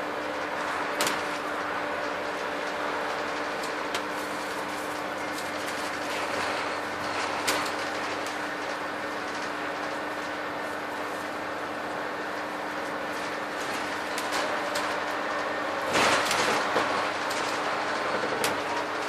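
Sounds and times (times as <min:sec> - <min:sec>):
bus body rattles: 0:00.0 - 0:19.0
bus diesel engine hum: 0:00.0 - 0:19.0
road noise: 0:00.0 - 0:19.0.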